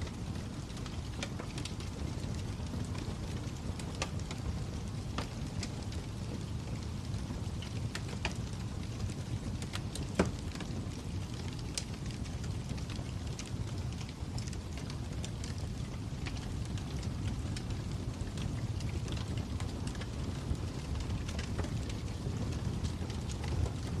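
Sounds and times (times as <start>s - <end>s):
fire crackling and popping: 0.0s - 24.0s
low fire rumble: 0.0s - 24.0s.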